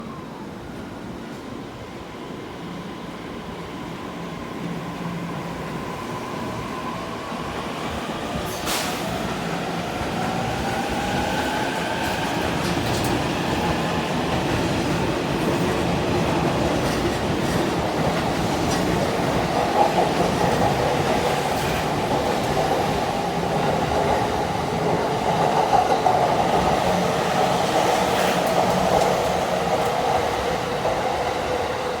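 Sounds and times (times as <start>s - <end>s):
train wheels rumbling on rail: 3.5s - 32.0s.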